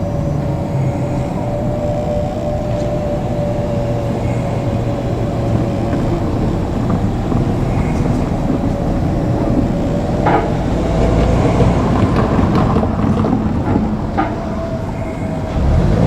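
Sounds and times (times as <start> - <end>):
electric train hum: 0.0 - 16.0
electric train rumble: 0.0 - 16.0.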